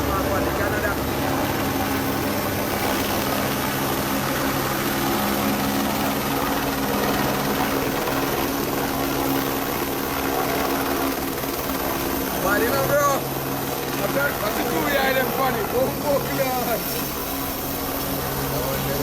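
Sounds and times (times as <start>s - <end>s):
helicopter running: 0.0s - 19.0s.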